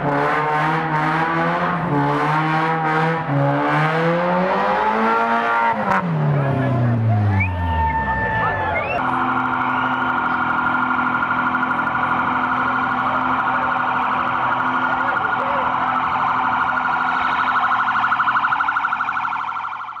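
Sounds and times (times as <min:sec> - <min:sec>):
police siren warbling: 0:00.0 - 0:20.0.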